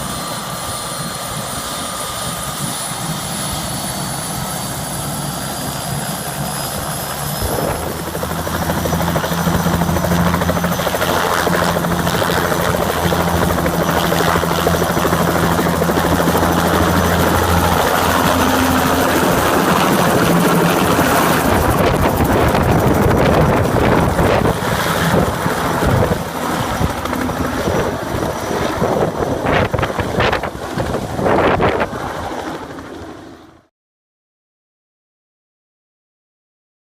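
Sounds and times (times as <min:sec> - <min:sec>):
helicopter flying overhead: 0:00.0 - 0:33.7.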